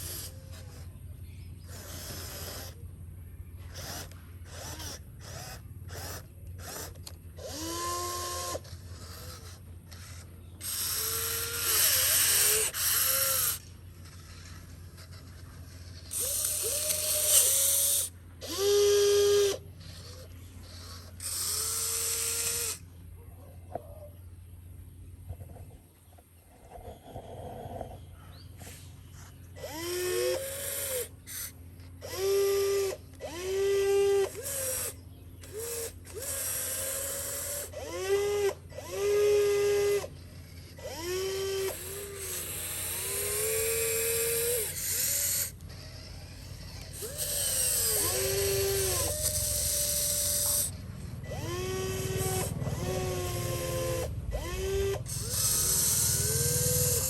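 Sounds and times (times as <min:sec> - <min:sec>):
small electric motor whirring: 0:00.0 - 0:23.1, 0:25.3 - 0:57.0
low steady hum: 0:00.0 - 0:57.0.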